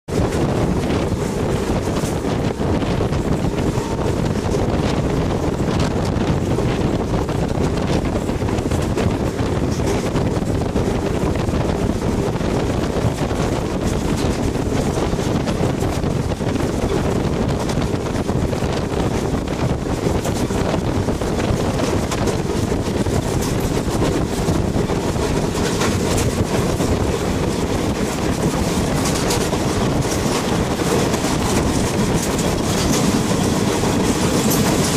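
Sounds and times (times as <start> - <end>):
train low rumble: 0.1 - 34.9
wind buffeting microphone: 0.1 - 34.9.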